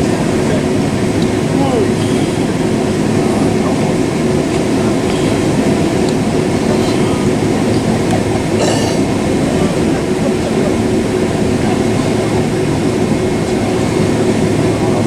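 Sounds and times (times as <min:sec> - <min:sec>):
airliner cabin engine noise: 0:00.0 - 0:15.0
constant low hum: 0:00.0 - 0:15.0.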